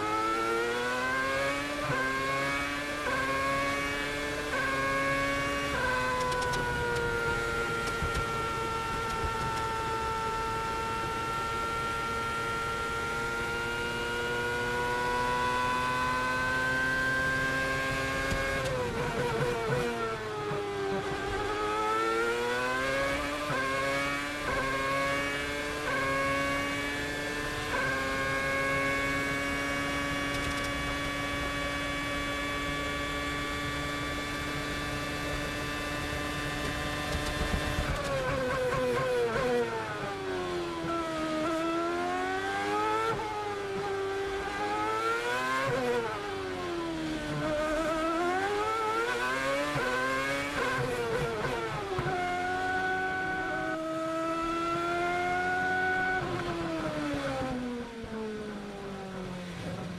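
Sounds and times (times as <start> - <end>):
racing car engine at high revs: 0.0 - 59.9.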